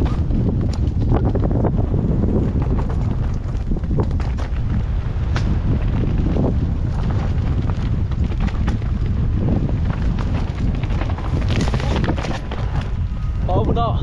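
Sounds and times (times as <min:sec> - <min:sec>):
bike rattling over stones: 0:00.0 - 0:14.0
bike rumbling on dirt trail: 0:00.0 - 0:14.0
wind buffeting microphone: 0:00.0 - 0:14.0.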